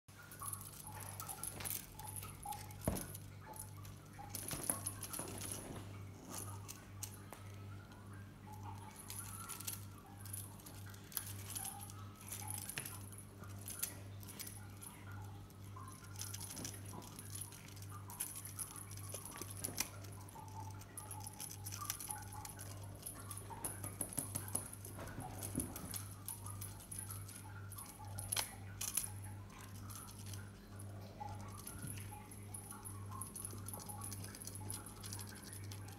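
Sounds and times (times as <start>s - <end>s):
steady low hum: 0.1s - 35.9s
cat toy jingling and rattling: 0.2s - 7.6s, 8.5s - 35.9s.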